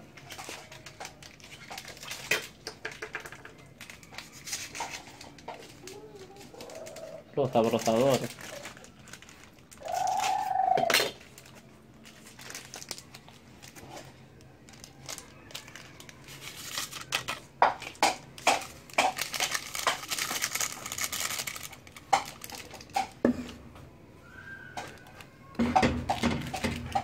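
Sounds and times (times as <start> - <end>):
plastic sachets crinkling and tearing: 0.0 - 23.2.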